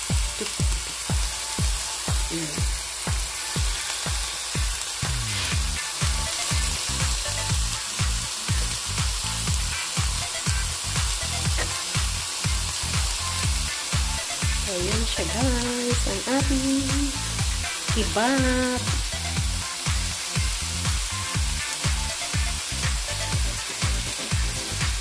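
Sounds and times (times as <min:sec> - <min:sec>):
background music with steady beat: 0:00.0 - 0:25.0
meat sizzling in a pan: 0:00.0 - 0:25.0.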